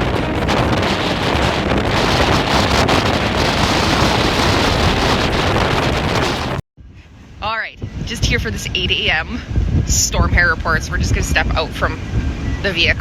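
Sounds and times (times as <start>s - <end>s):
strong blizzard wind: 0.0s - 13.0s.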